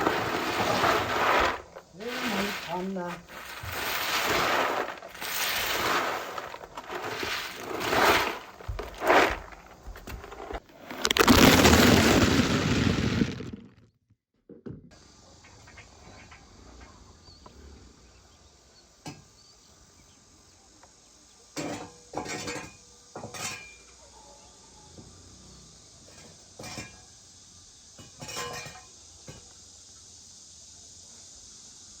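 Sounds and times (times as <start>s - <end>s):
faint steady hiss: 0.0s - 11.3s, 15.0s - 32.0s.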